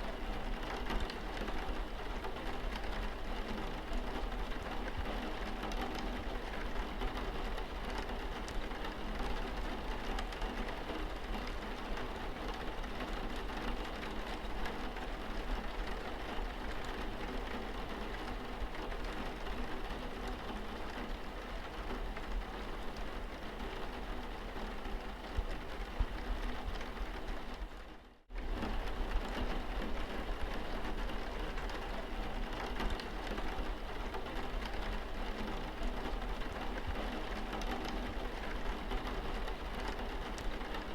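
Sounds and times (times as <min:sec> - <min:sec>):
rain pattering on windscreen: 0:00.0 - 0:40.9.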